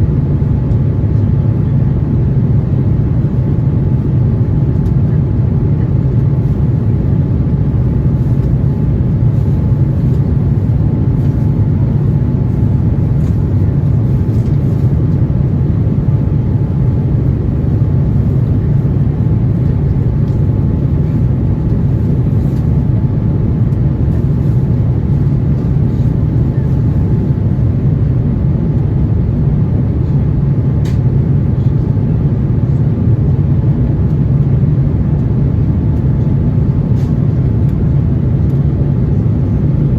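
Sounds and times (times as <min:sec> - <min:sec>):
airliner cabin rumble: 0:00.0 - 0:39.9
faint steady whine: 0:00.0 - 0:39.9.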